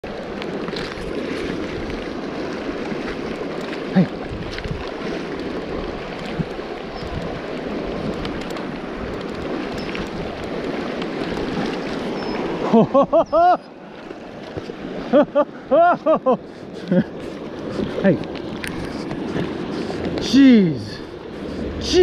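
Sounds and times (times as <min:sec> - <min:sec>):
river water rushing over rocks: 0:00.0 - 0:22.0.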